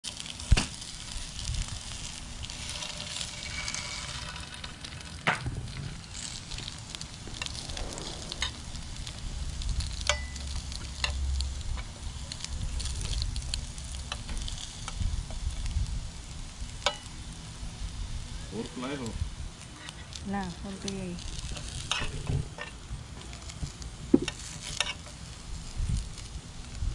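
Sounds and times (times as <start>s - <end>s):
food sizzling in skillet: 0.0s - 26.9s.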